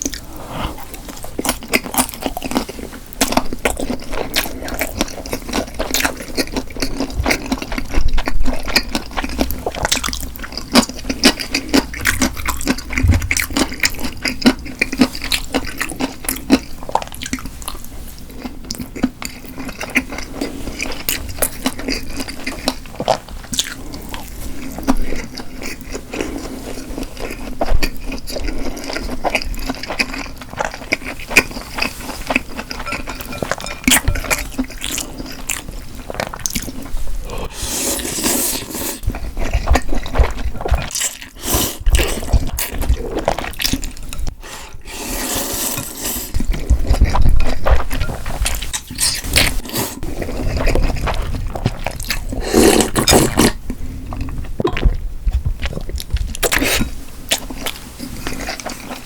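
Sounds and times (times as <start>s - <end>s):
chewing and wet mouth noises: 0.0s - 44.3s, 45.7s - 59.0s.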